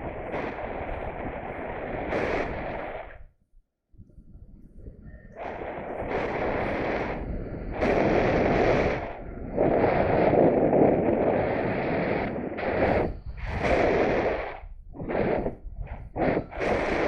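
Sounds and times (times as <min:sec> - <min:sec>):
wind buffeting microphone: 0:00.0 - 0:03.3, 0:04.0 - 0:17.0.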